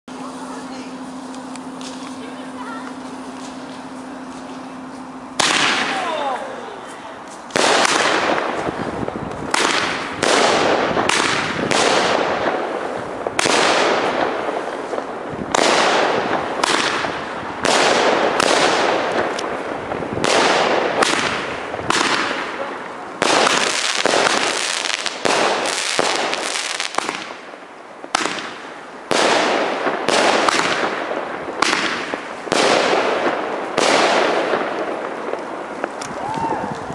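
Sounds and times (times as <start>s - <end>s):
fireworks bangs with crackling: 0.1s - 36.9s.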